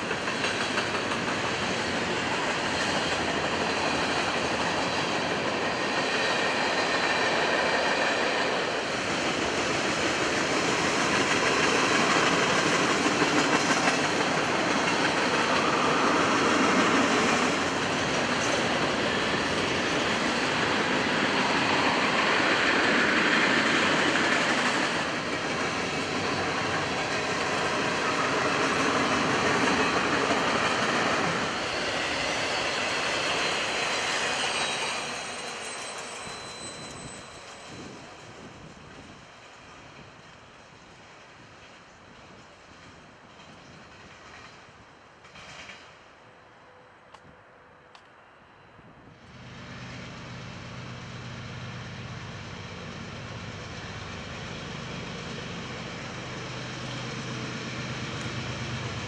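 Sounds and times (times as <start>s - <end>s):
freight train rolling on track: 0.0s - 59.0s.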